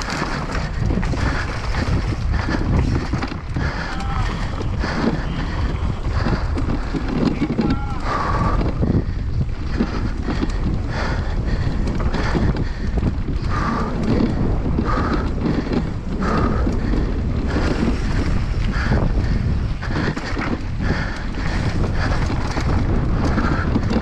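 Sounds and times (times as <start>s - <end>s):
mountain bike rattle and tyre noise: 0.0s - 24.0s
wind buffeting microphone: 0.0s - 24.0s.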